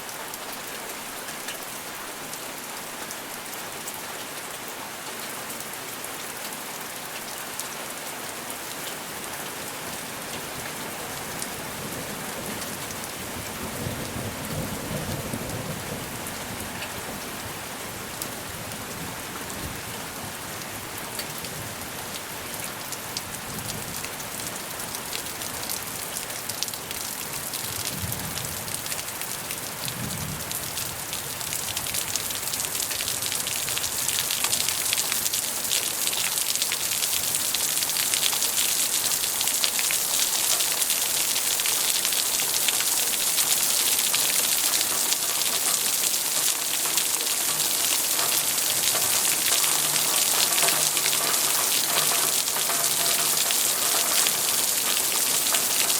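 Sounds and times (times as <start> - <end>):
steady rain pattering: 0.0 - 55.9.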